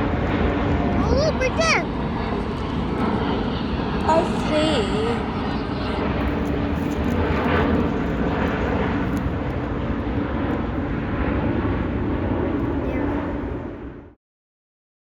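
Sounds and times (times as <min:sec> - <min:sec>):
jet engines rumbling: 0:00.0 - 0:14.1.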